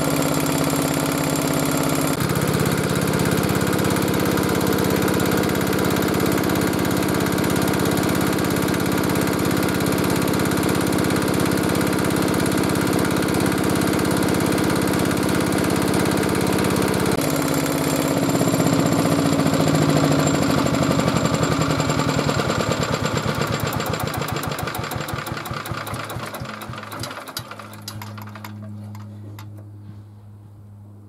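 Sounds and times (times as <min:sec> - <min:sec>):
engine generator running: 0:00.0 - 0:31.0.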